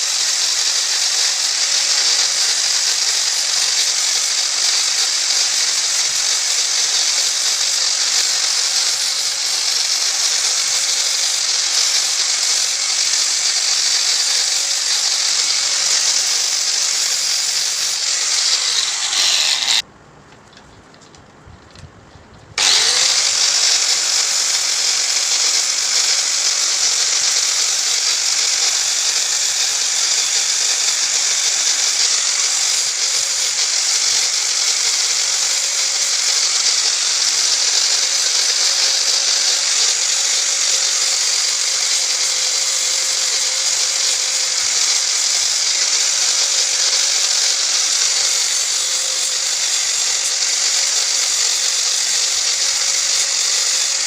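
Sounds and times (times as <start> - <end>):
electric power tool running: 0.0 - 19.8, 22.6 - 54.0.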